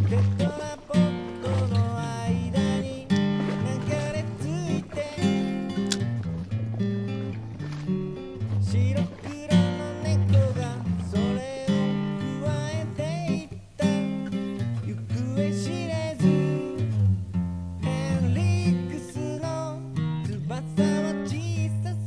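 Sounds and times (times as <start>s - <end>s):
person singing: 0.0s - 5.9s, 8.6s - 16.9s, 17.8s - 22.0s
strummed acoustic guitar: 0.0s - 22.0s.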